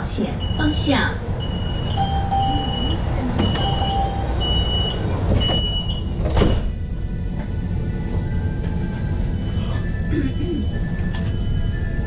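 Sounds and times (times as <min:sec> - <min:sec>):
tram warning beeper: 0:00.0 - 0:06.2, 0:08.3 - 0:12.0
tram low steady hum: 0:00.0 - 0:12.0.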